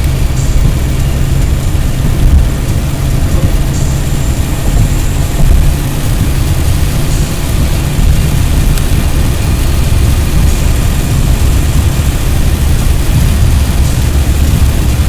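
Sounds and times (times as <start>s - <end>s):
car driving on wet road: 0.0s - 15.0s.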